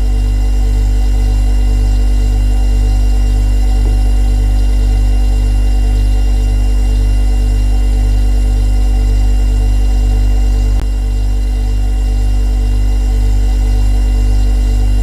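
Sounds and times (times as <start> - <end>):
refrigerator compressor humming: 0.0 - 15.0.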